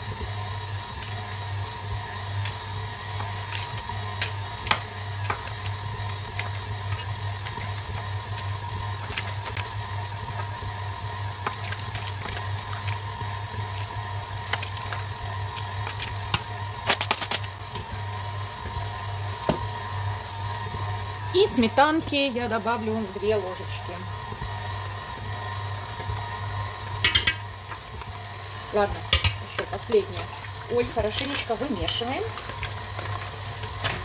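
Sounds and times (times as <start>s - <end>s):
stand mixer motor humming: 0.0s - 34.0s.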